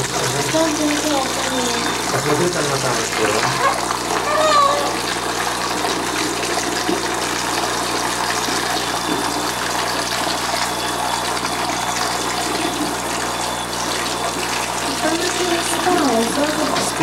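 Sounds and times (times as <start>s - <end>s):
water running into plastic bath: 0.0s - 17.0s.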